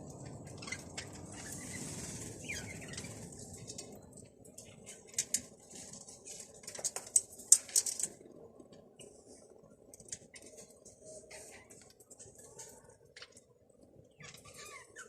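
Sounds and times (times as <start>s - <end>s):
birds clicking and rustling: 0.0s - 9.1s, 9.8s - 15.0s.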